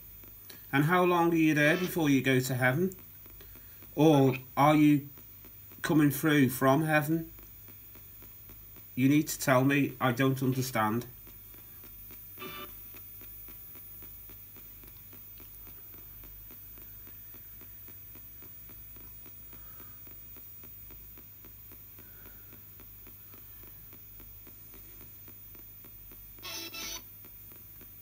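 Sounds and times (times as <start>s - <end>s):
radio static hiss and hum: 0.0s - 28.0s
radio station snatch: 0.1s - 28.0s
rapid clicks: 0.1s - 28.0s.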